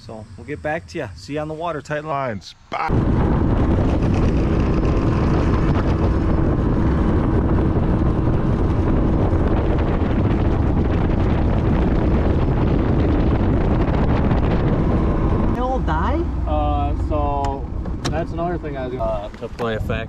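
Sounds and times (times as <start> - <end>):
wind buffeting microphone: 0.0 - 20.0
outboard motor drone: 2.9 - 20.0.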